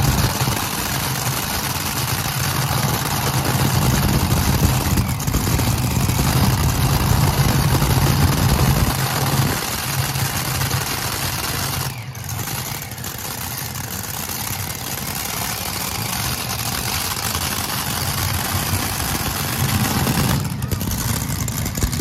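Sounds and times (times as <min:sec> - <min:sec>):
tractor engines idling roughly: 0:00.0 - 0:22.0.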